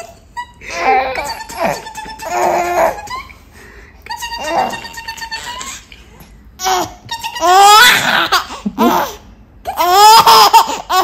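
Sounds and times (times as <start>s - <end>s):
baby laughing: 0.0s - 3.4s, 4.1s - 11.0s.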